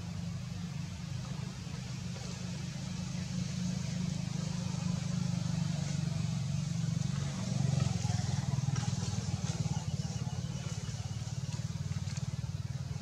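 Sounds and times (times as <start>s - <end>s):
engine running with flutter: 0.0s - 13.0s.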